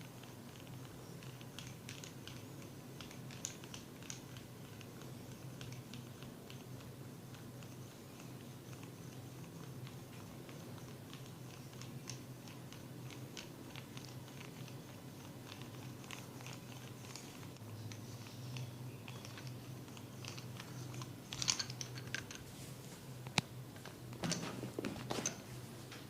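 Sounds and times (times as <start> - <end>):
hair crackling against scalp: 0.0 - 23.5.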